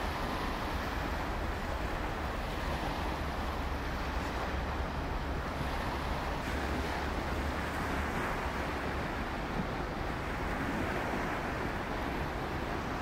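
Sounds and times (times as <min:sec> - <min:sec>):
small waves lapping on shore: 0:00.0 - 0:13.0.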